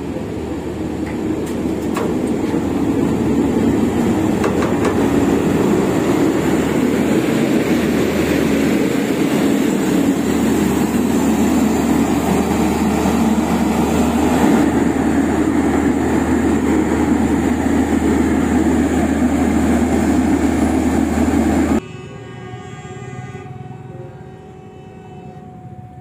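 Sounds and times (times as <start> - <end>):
heavy diesel engines droning: 0.0 - 26.0.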